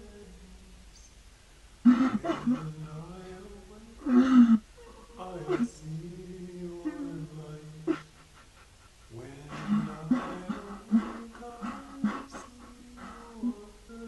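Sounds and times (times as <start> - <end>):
pitched-down man sobbing: 1.8 - 14.0.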